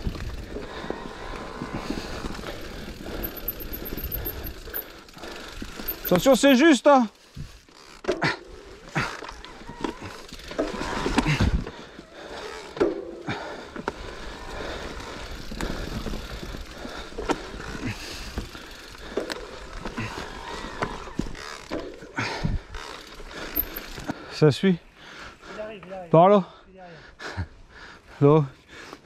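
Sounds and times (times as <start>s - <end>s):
tyres on dirt and leaves: 0.0s - 24.3s
mountain bike rattling: 0.0s - 26.2s.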